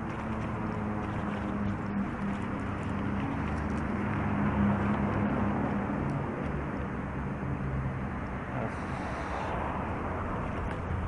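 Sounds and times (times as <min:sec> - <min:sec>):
bicycle road noise: 0:00.0 - 0:11.0
car traffic: 0:00.0 - 0:11.0
low vehicle engine hum: 0:00.0 - 0:11.0.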